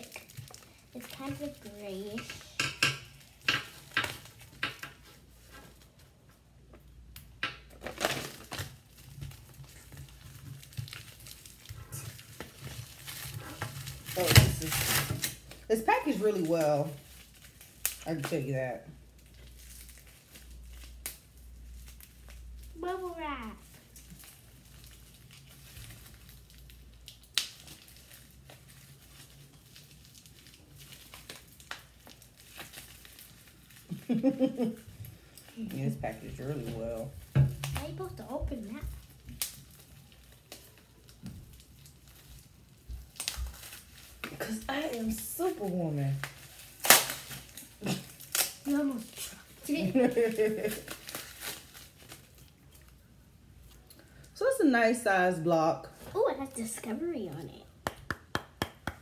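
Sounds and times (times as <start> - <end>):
plastic packaging crinkling: 0.0 - 54.4.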